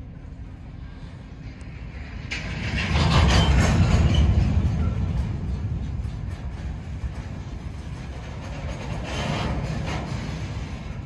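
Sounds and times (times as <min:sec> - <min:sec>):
freight train rumbling and clattering: 0:00.0 - 0:11.0.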